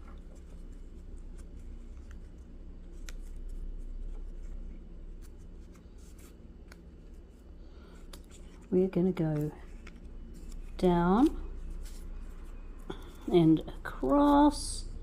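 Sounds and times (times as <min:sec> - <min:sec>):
leaf strips rustling and scraping: 0:00.0 - 0:14.8.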